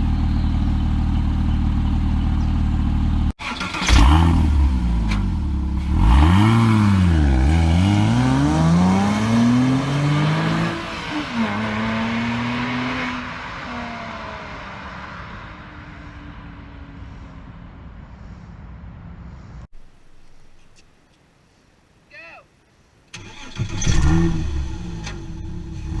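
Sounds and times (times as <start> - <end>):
car engine revving: 0.0 - 19.5, 23.2 - 26.0.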